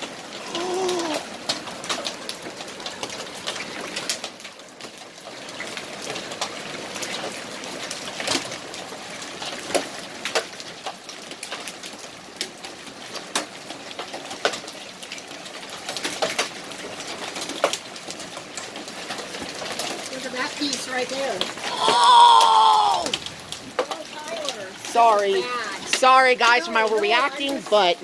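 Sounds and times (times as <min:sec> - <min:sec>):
hail and rain falling: 0:00.0 - 0:28.0
hailstones cracking on impact: 0:00.0 - 0:28.0.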